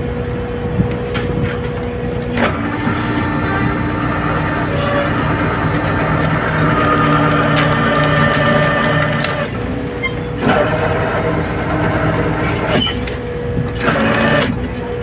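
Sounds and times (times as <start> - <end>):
whining deck machinery: 0.0 - 15.0.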